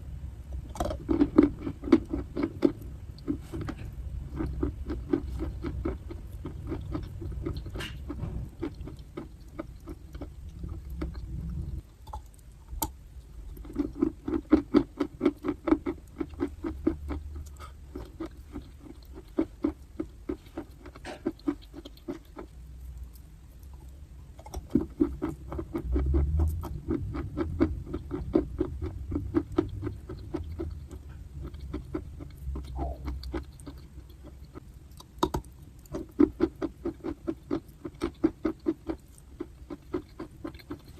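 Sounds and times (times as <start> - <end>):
chewing crisp crunches: 0.7 - 40.9.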